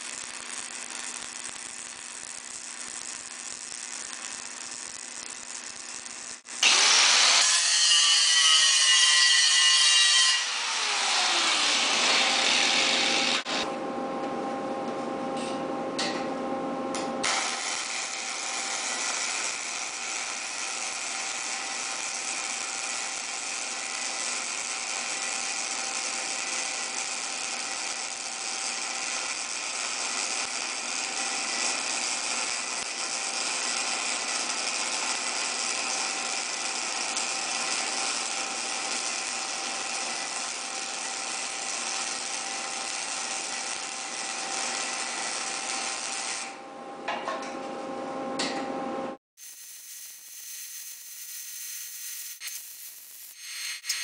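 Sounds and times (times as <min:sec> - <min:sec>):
welding arc crackling and buzzing: 0:00.0 - 0:13.7, 0:16.9 - 0:46.6, 0:49.4 - 0:54.0.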